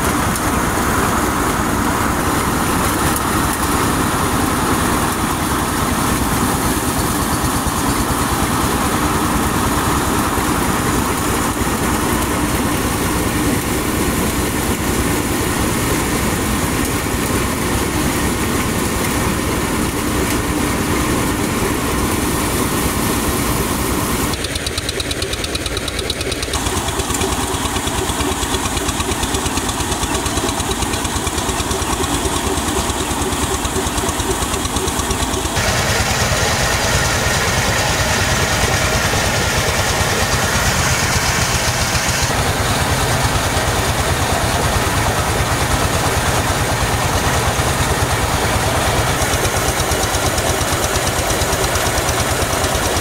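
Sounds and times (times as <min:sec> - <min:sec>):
rice stalks being threshed: 0:00.0 - 0:53.0
thresher engine drone: 0:00.0 - 0:53.0.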